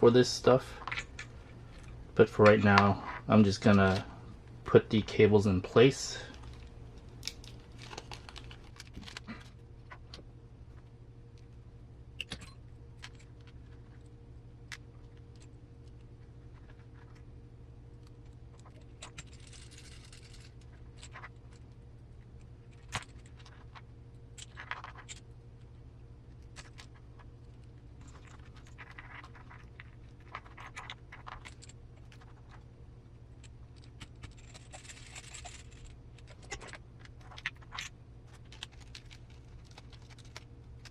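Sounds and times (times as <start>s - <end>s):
faint steady hum: 0.0s - 40.9s
rustles and scrapes: 0.2s - 11.6s, 12.9s - 17.4s, 18.0s - 40.9s.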